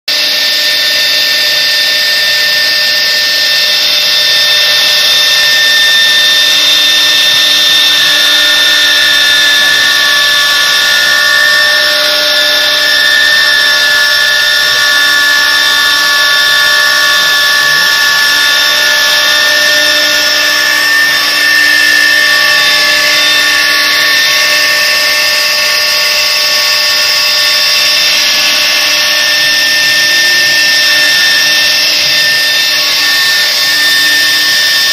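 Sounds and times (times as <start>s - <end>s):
cnc router spindles whining: 0.1s - 34.9s.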